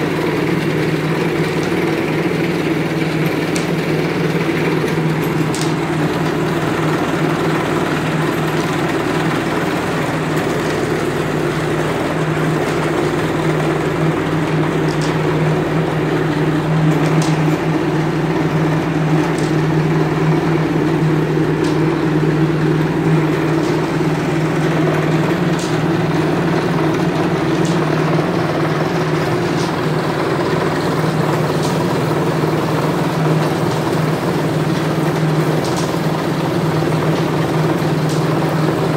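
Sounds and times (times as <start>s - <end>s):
machine humming: 0.0s - 38.9s
rollers rolling noise: 0.0s - 38.9s.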